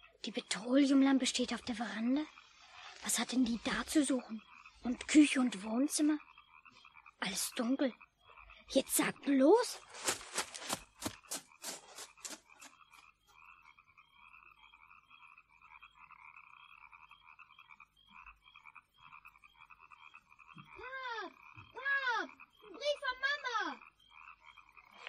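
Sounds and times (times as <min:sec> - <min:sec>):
frogs croaking: 0:00.0 - 0:25.0.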